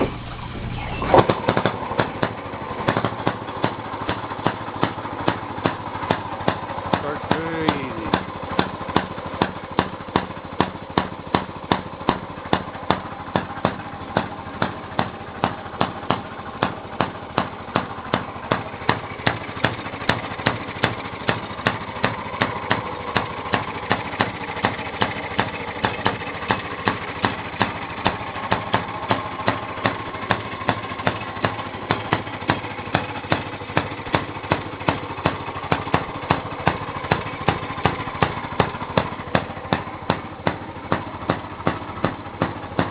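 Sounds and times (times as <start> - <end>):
small gas engine drone: 0.0 - 42.9.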